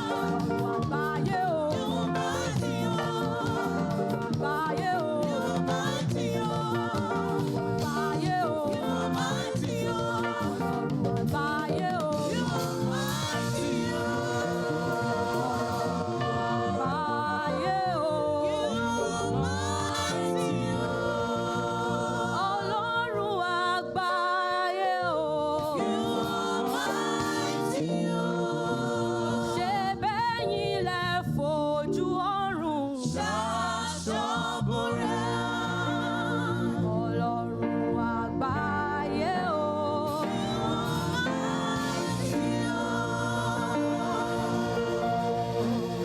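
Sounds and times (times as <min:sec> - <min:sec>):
choir singing praise music: 0:00.0 - 0:46.0.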